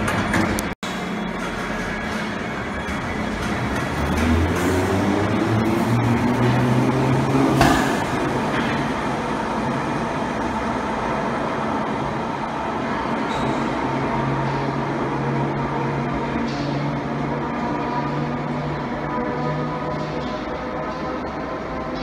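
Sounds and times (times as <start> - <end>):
train rumble: 0.0 - 22.0
train traction motor hum: 0.0 - 22.0.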